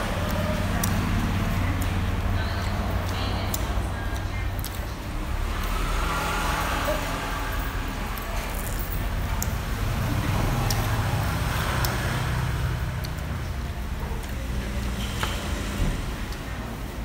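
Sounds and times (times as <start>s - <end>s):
faint chatter: 0.0s - 17.0s.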